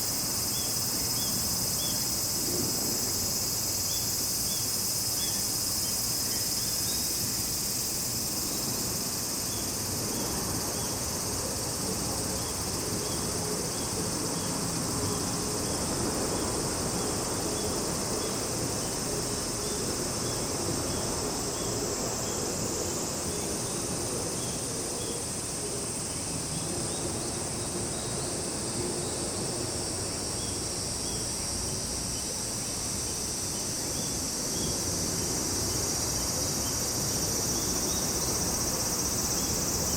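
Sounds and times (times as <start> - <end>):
insect chirps: 0.0 - 39.9.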